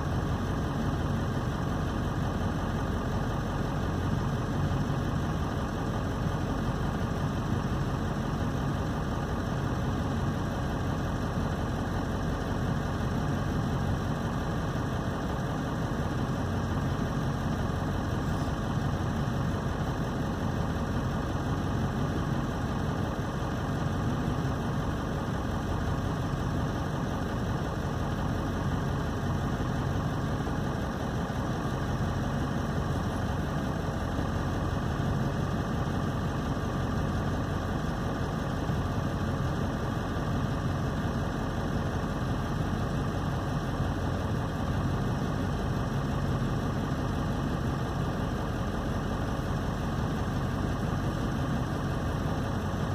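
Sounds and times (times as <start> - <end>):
vehicle engine idling: 0.0 - 52.9.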